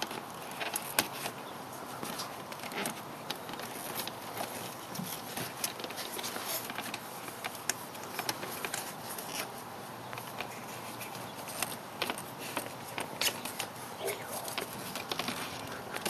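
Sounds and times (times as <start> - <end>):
plastic clicks and rustling: 0.0 - 16.0.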